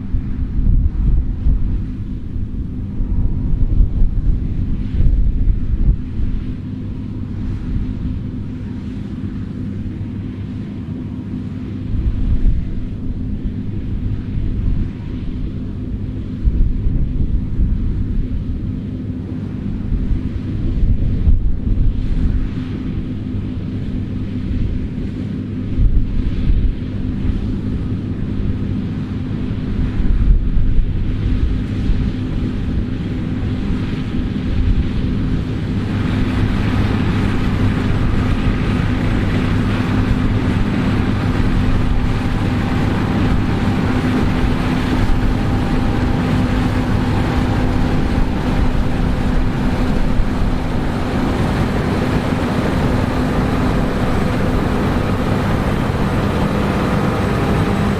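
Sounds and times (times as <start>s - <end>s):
combine harvester engine drone: 0.0s - 57.9s
wind buffeting microphone: 0.0s - 57.9s.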